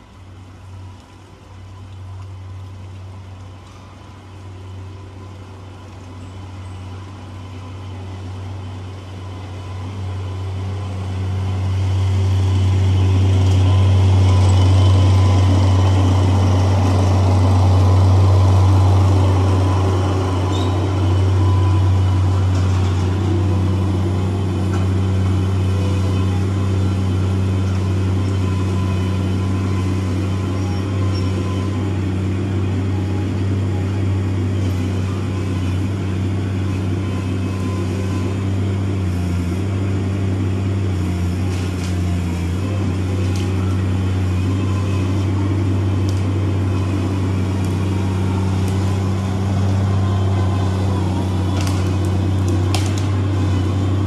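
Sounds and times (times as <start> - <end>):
loader engine droning: 0.0 - 54.0.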